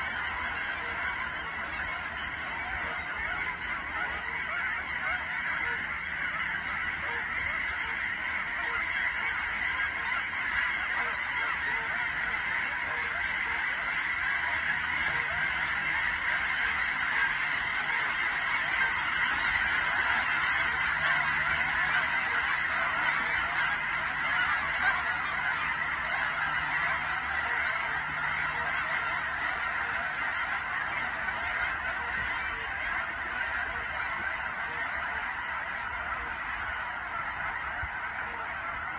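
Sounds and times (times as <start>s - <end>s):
flock of geese honking: 0.0s - 38.9s.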